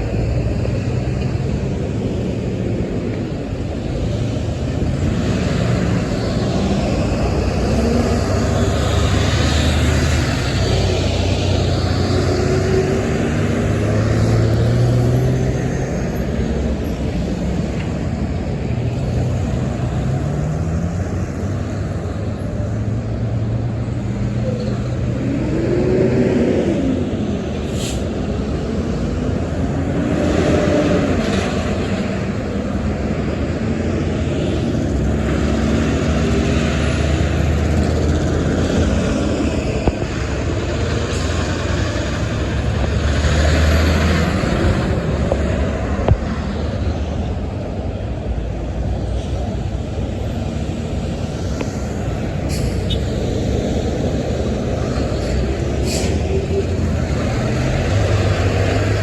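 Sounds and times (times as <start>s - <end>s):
road vehicles engine rumble: 0.0s - 59.0s.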